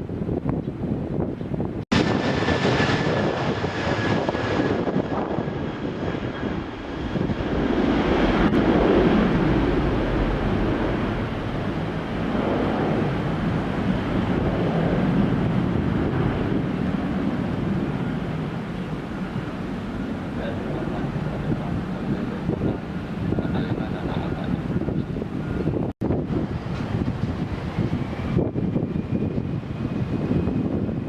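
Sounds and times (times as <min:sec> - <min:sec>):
jet engines during takeoff: 0:00.0 - 0:31.0.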